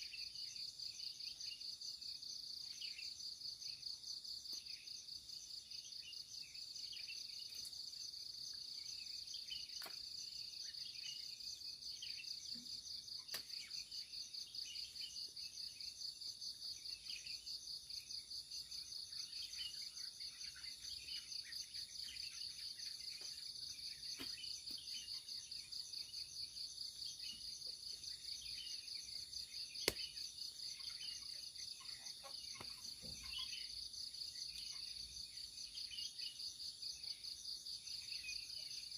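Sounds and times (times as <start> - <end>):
faint bird chirps: 0.0 - 38.9.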